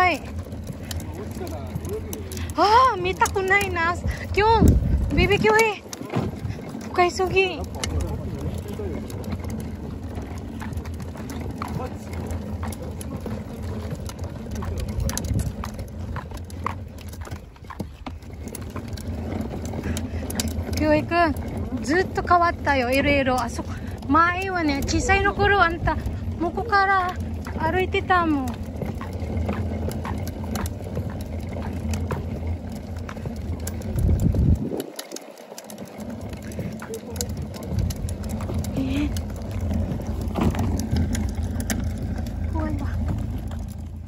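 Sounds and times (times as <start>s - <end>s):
cooler wheels rumbling on concrete: 0.0s - 44.0s
footsteps: 0.0s - 44.0s.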